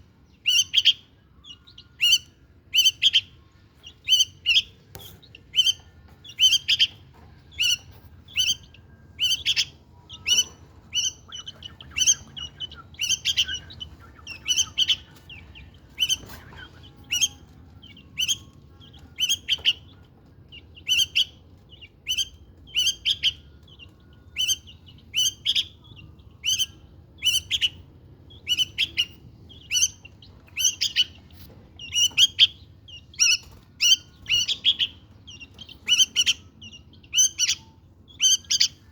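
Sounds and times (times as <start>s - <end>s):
bulbuls chirping: 0.0s - 38.9s.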